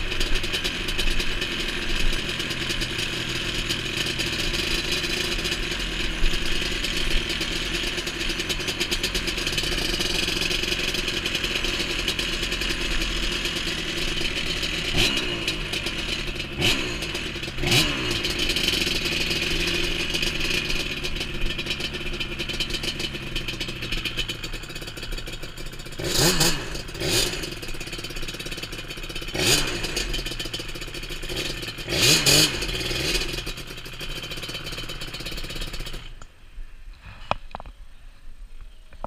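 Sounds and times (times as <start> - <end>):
quad bike engine revving: 0.0 - 36.3.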